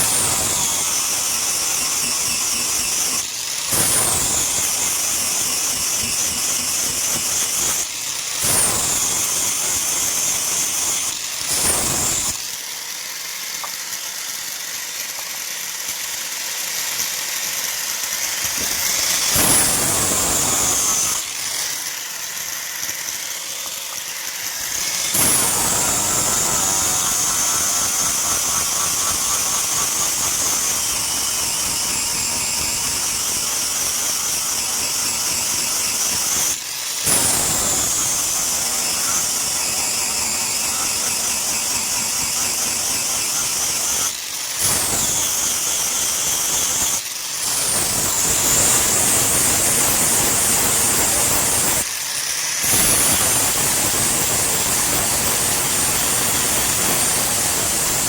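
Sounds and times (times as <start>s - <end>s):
power grinder grinding steel: 0.0s - 58.0s.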